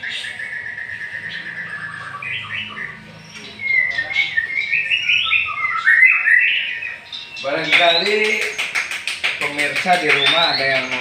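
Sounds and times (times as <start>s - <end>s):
caged songbird singing: 0.0s - 11.0s.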